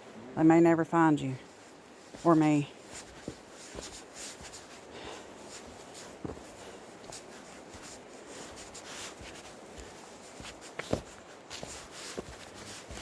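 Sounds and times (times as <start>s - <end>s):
faint rustling and scraping: 1.3s - 13.0s.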